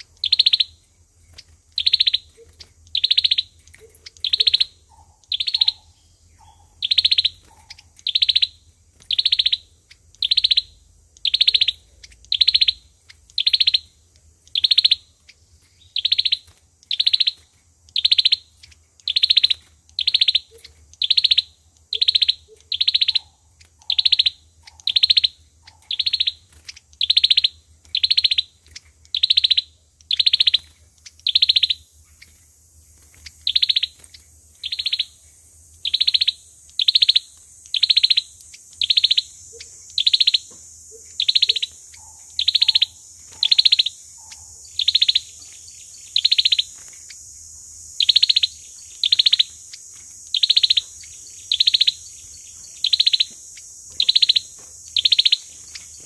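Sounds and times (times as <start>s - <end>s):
bird chirping high: 0.0s - 56.0s.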